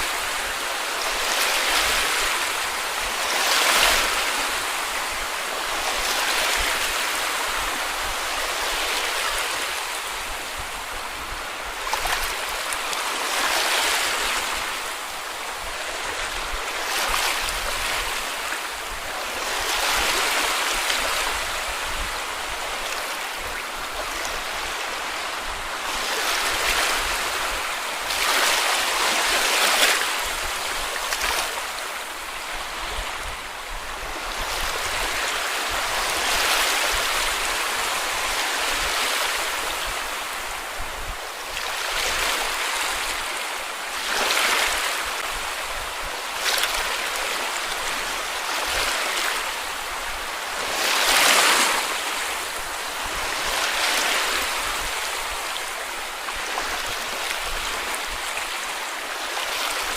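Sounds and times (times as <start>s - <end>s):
surf washing on beach: 0.0s - 59.9s.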